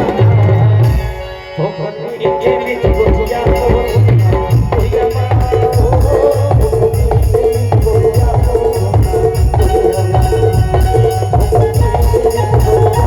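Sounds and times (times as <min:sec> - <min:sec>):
drum beating steady rhythm: 0:00.0 - 0:13.0
folk melody line: 0:00.0 - 0:13.0
rattling percussion: 0:02.1 - 0:13.0.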